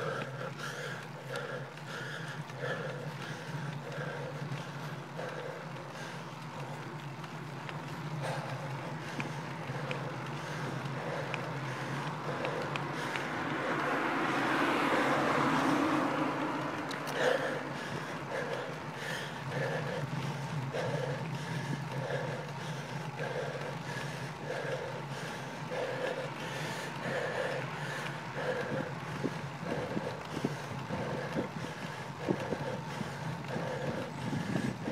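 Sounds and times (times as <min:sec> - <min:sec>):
bicycle tyre hum: 0:00.0 - 0:34.9
light ticks: 0:00.0 - 0:34.9
wind rush on camera: 0:00.0 - 0:34.9.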